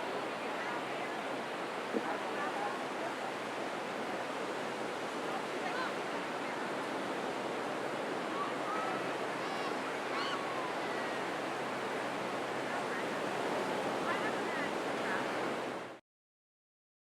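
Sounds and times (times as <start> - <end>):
distant voices of beachgoers: 0.0 - 16.0
ocean surf: 0.0 - 16.0.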